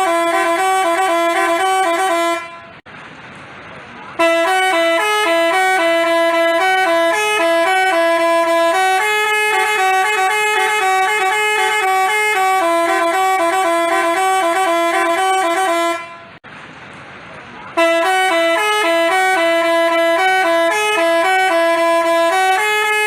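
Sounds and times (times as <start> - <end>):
multi-tone musical air horn: 0.0 - 2.8, 4.2 - 16.4, 17.8 - 23.0.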